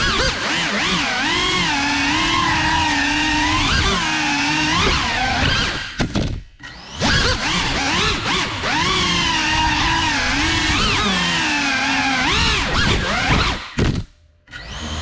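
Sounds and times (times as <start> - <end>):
drone motors whining: 0.0 - 13.8, 14.4 - 15.0.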